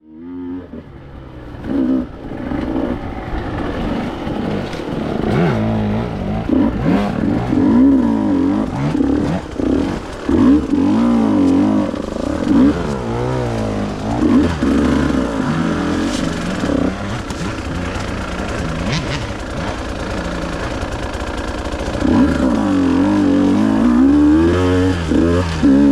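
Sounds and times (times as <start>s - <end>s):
two-stroke engine revving: 0.0s - 25.9s.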